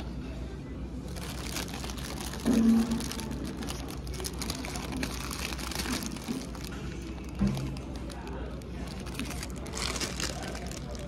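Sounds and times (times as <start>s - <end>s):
paper wrapper crinkling: 1.1s - 11.0s.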